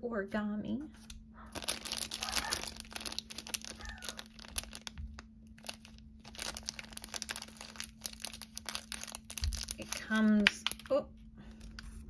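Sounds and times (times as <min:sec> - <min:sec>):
plastic bag crinkling: 0:01.0 - 0:12.0.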